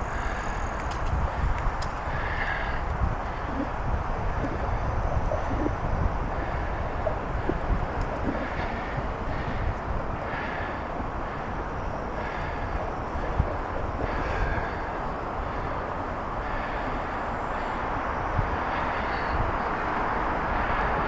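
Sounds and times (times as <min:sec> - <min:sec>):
bicycle rolling noise: 0:00.0 - 0:19.2
rushing wind: 0:00.0 - 0:21.0.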